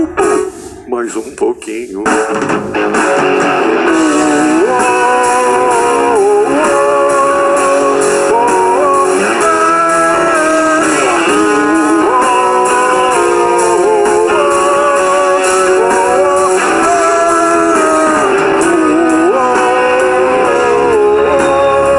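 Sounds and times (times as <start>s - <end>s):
guitar bending held notes: 0.0s - 21.9s
rock band playing: 0.0s - 21.9s.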